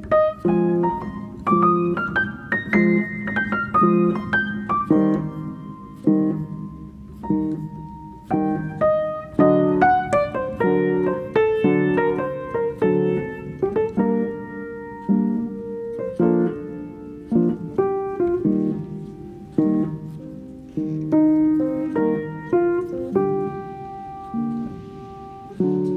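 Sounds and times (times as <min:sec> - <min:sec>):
piano chords and melody: 0:00.0 - 0:25.9.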